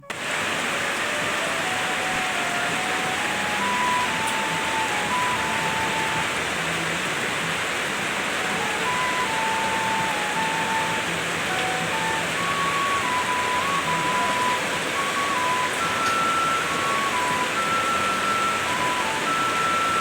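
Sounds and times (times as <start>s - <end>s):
faint tune of held notes: 0.0s - 20.0s
heavy rain falling: 0.0s - 20.0s.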